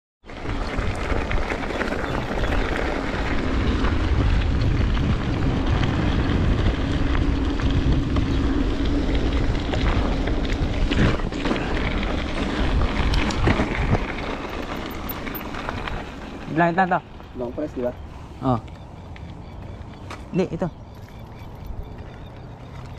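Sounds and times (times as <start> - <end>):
wind rushing over microphone: 0.3 - 22.7
tyres rolling on gravel: 0.3 - 22.9
bike clicks: 0.5 - 22.9.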